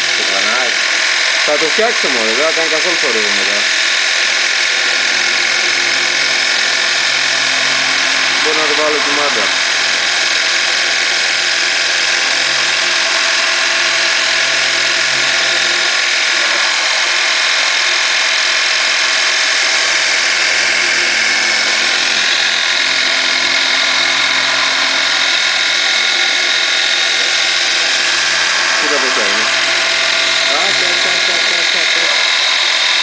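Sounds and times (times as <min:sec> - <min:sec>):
high machine tones: 0:00.0 - 0:33.0
milling machine cutting metal: 0:00.0 - 0:33.0.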